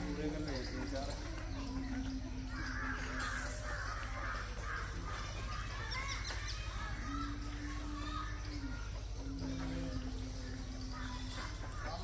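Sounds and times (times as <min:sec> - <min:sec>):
harsh bird calls: 0:00.0 - 0:12.0.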